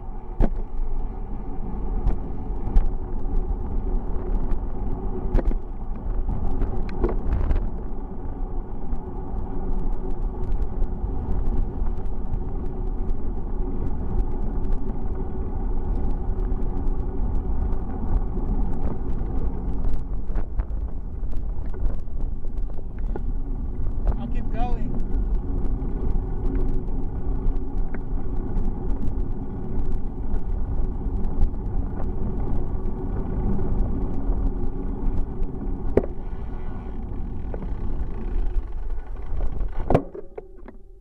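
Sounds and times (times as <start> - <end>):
bicycle tyres on road: 0.0 - 41.0
wind noise: 0.0 - 41.0.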